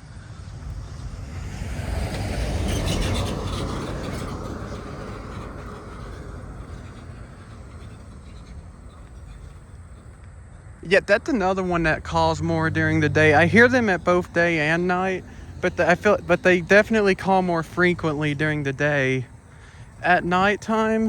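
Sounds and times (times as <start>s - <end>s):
car passing on road: 0.0s - 21.0s.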